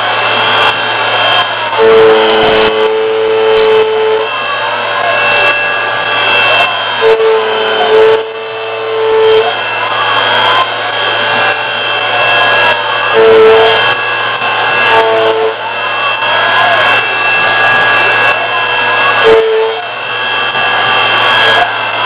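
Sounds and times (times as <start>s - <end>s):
end mill cutting metal tone: 0.0s - 22.0s
gliding whines: 0.0s - 22.0s
machine hum: 0.0s - 22.0s.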